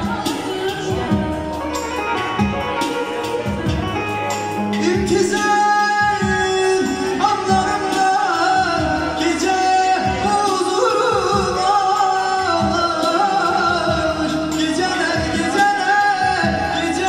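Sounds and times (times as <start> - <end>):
electronic keyboard with beat: 0.0 - 17.0
man singing through speakers: 0.0 - 17.0.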